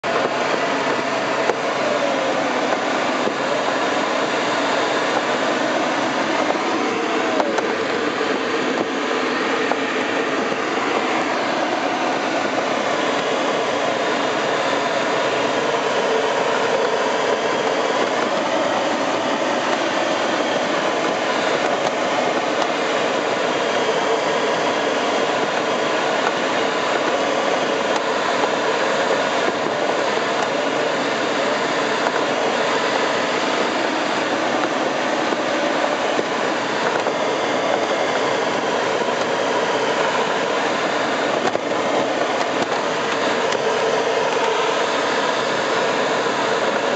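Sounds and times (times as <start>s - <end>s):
air rushing over glider canopy: 0.0s - 46.9s.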